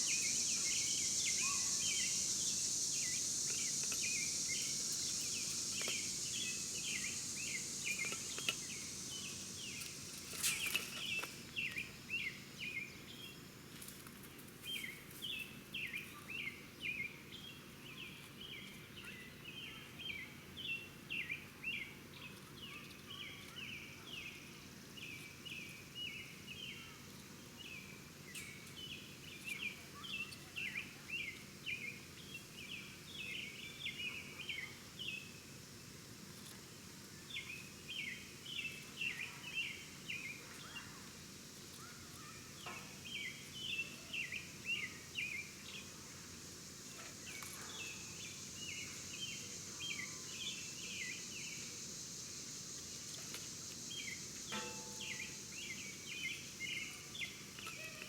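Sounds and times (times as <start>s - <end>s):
songbird chirping: 0.0s - 35.5s, 36.4s - 58.0s
steady high hiss: 0.0s - 58.0s.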